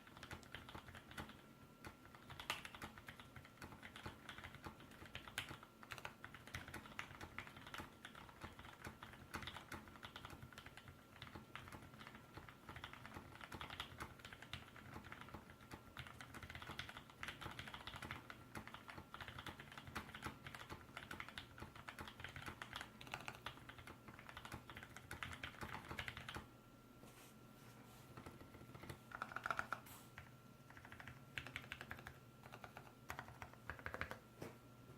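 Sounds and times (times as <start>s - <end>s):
fast mechanical keyboard typing: 0.0s - 26.5s, 28.2s - 34.2s.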